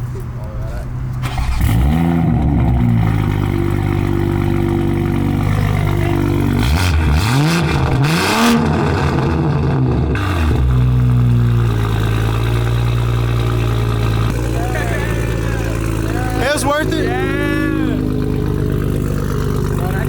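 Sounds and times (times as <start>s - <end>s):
car engine revving: 0.9s - 20.0s.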